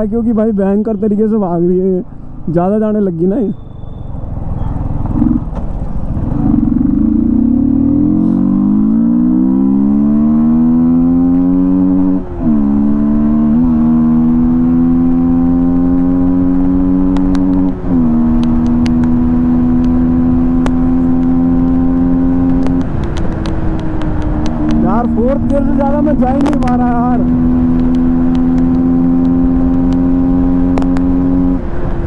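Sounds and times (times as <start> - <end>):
motorcycle engine revving: 3.5 - 31.7.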